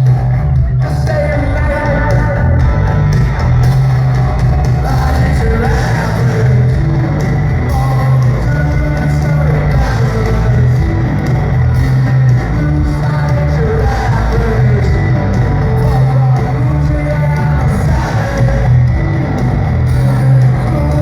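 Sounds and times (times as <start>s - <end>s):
bass guitar: 0.0s - 21.0s
drums: 0.0s - 21.0s
electric guitar: 0.0s - 21.0s
person singing: 0.0s - 21.0s.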